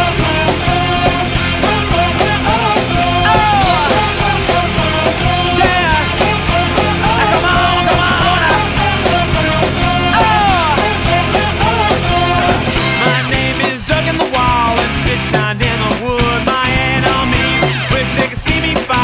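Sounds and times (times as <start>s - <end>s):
bass guitar: 0.0s - 19.0s
steady drum beat: 0.0s - 19.0s.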